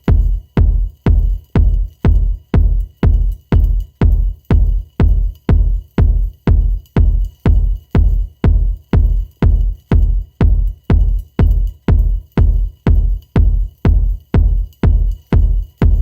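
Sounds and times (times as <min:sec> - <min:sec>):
electronic dance music: 0:00.0 - 0:16.0
heavy deep kick drum: 0:00.0 - 0:16.0.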